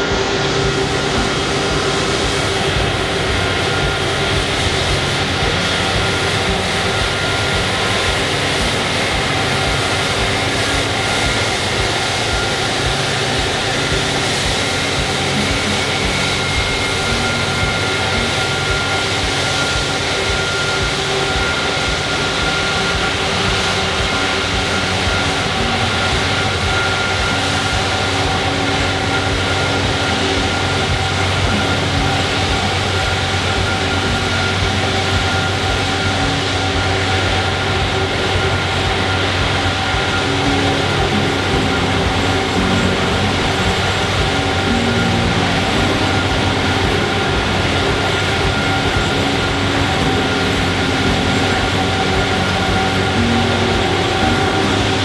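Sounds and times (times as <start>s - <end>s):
constant aircraft rumble: 0.0s - 55.0s
jet engines whining: 0.0s - 55.0s.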